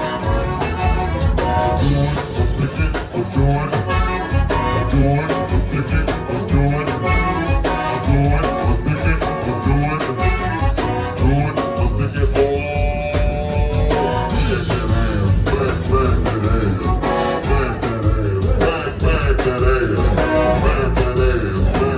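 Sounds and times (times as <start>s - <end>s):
accordion: 0.0s - 21.9s
drum kit: 0.0s - 21.9s
electric bass guitar: 0.0s - 21.9s.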